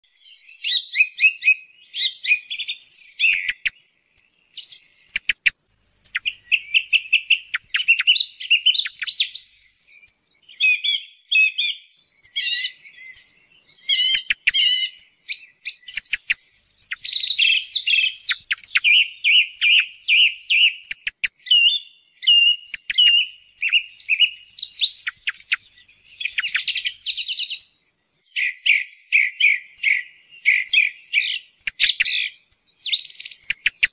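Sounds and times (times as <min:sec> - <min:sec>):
song thrush singing: 0:00.0 - 0:33.9.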